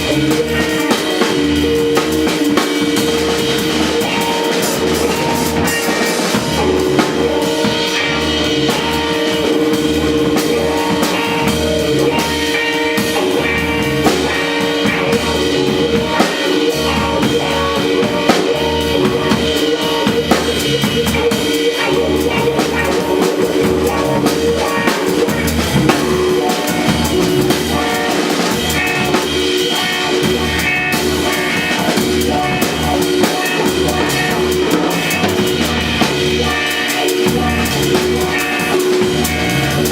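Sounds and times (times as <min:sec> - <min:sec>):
bass line: 0:00.0 - 0:39.9
jazz trio playing: 0:00.0 - 0:39.9.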